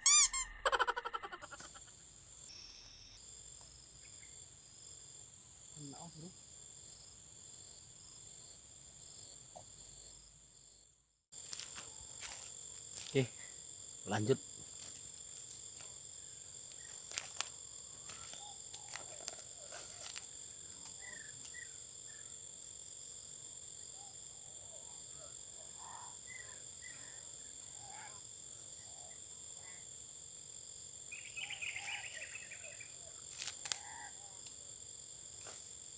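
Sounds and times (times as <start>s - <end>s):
insects chirping: 0.0s - 35.9s.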